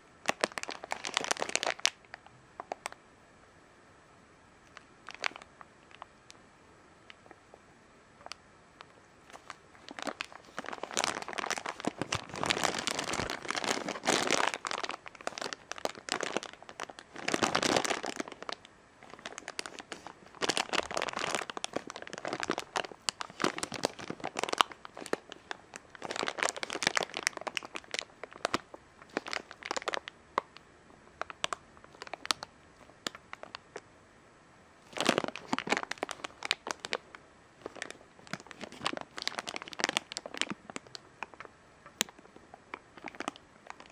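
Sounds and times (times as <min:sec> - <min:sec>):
plastic bag crinkling: 0:00.2 - 0:02.9, 0:04.7 - 0:06.1, 0:08.2 - 0:30.5, 0:31.2 - 0:33.8, 0:34.8 - 0:43.9.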